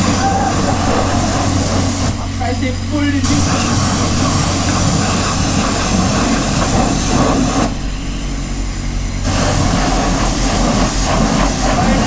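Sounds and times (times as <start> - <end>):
low hum: 0.0 - 12.0
pressure washer spraying hiss: 0.0 - 12.0.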